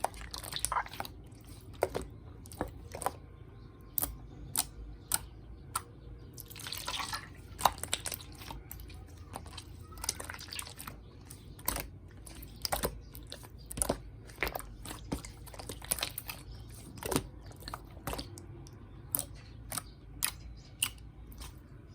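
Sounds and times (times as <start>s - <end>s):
slime clicking and squelching: 0.0s - 21.9s.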